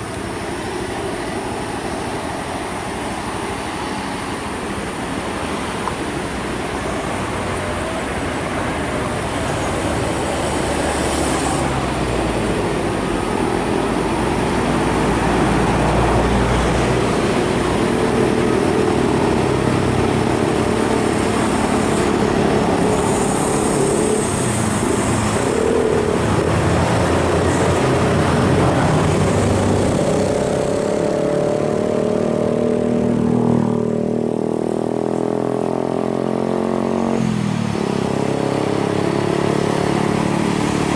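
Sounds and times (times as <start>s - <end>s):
diesel truck engines running: 0.0s - 35.3s
cars and motorcycles passing: 0.0s - 40.9s
engine accelerating: 0.0s - 40.9s.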